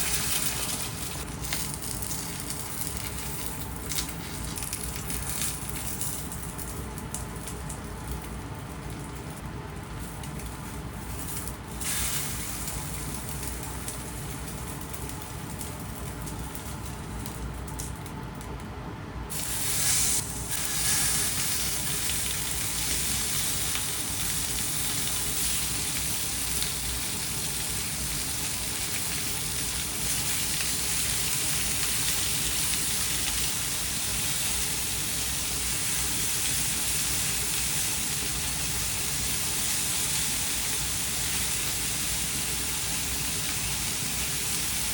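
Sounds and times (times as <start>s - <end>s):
food sizzling in hot oil: 0.0s - 8.2s, 10.2s - 16.9s, 19.3s - 44.9s.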